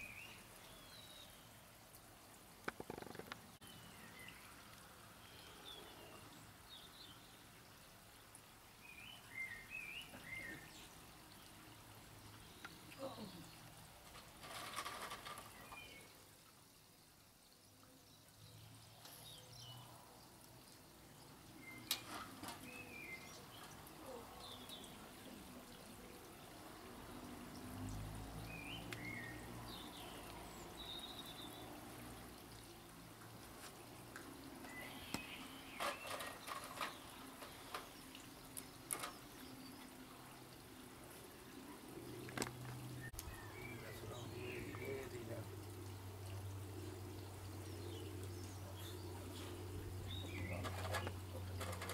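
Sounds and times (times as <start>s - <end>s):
small birds chirping: 8.8s - 51.9s.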